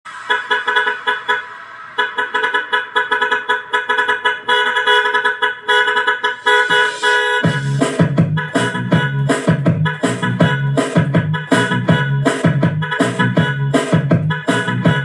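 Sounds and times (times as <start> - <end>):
truck horn sample in dance music: 0.1 - 15.0.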